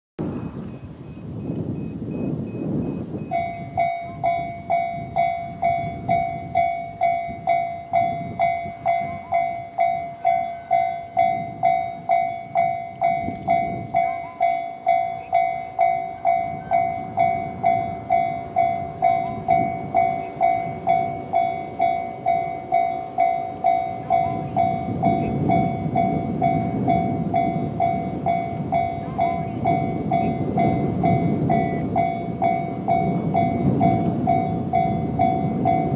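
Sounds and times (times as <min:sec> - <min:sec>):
electric train passing: 0:00.2 - 0:35.9
level crossing alarm bell ringing: 0:01.8 - 0:35.9
train wheels clacking: 0:03.2 - 0:35.9.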